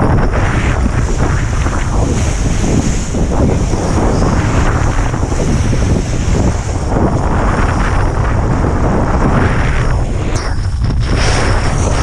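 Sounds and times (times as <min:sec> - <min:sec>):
strong wind buffeting microphone: 0:00.0 - 0:12.0
water rushing under a board: 0:00.0 - 0:12.0.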